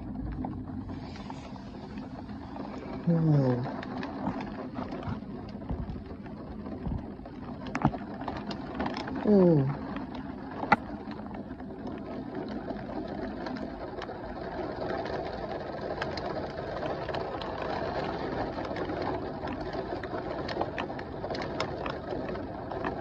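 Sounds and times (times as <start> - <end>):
heavy rain: 0.0 - 23.0
raindrops ticking on hard surface: 0.0 - 23.0.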